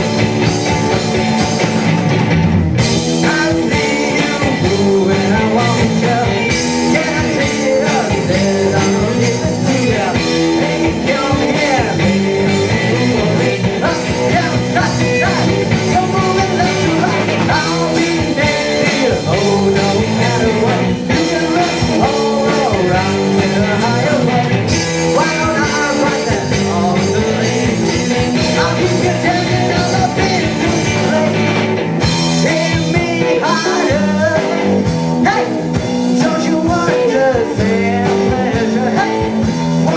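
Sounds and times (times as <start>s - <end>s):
rock band playing live: 0.0s - 39.9s
person singing: 3.1s - 31.6s, 32.2s - 39.9s.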